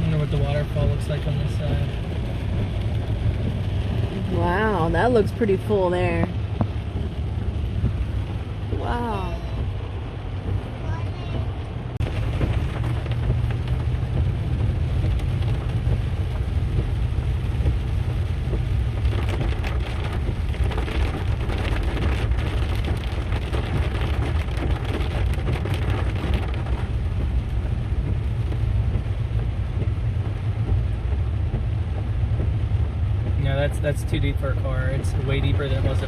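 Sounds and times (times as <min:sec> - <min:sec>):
road and engine rumble: 0:00.0 - 0:36.0
water pattering on car: 0:00.0 - 0:36.0.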